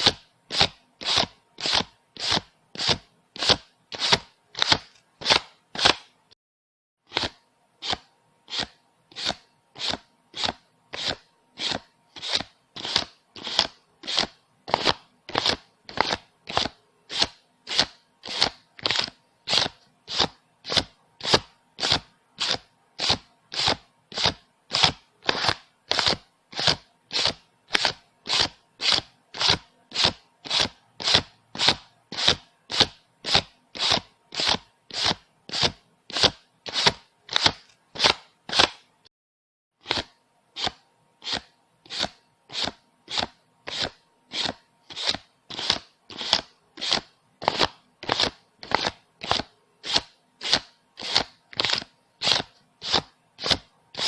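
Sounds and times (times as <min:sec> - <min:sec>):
banknotes rustling being counted: 0:07.1 - 0:38.9, 0:39.8 - 0:54.0.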